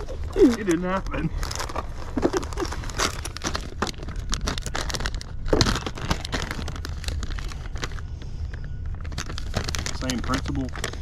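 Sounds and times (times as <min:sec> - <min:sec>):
handling crinkling and clicking: 0:00.0 - 0:11.0
steady low rumble: 0:00.0 - 0:11.0.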